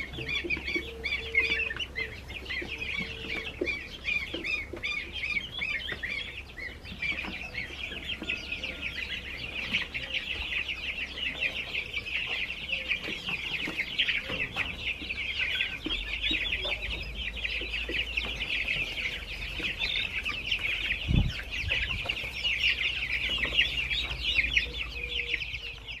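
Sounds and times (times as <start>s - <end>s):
chicks and goslings peeping: 0.0s - 26.0s.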